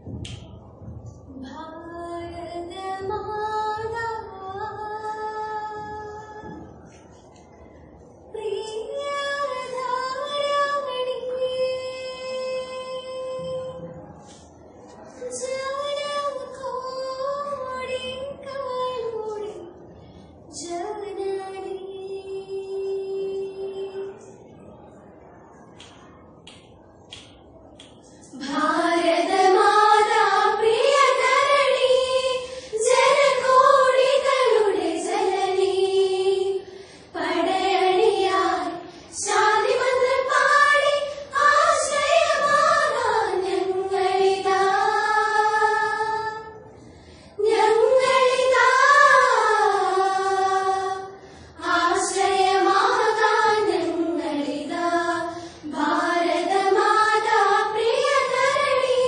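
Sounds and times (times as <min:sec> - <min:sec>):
girls singing in unison: 0:00.0 - 0:07.1, 0:08.3 - 0:14.4, 0:15.1 - 0:24.4, 0:27.9 - 0:59.0.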